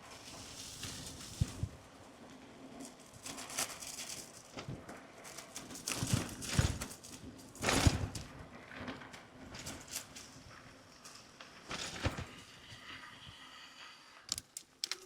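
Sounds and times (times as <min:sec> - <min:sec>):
bicycle rattling on bumpy road: 0:00.0 - 0:12.5.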